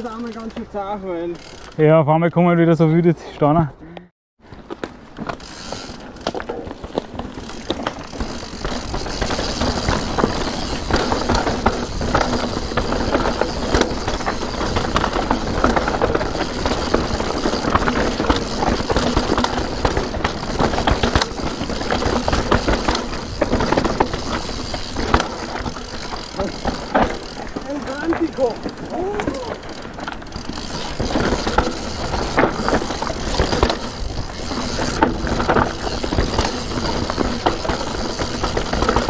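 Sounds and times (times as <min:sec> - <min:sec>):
bike rattling and knocking: 0:00.0 - 0:02.0, 0:04.4 - 0:39.0
bike tyres crunching over stones: 0:04.4 - 0:39.0.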